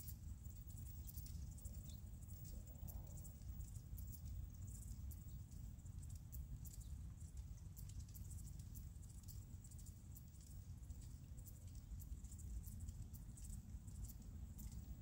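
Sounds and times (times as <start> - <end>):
faint high ticks: 0.0 - 15.0.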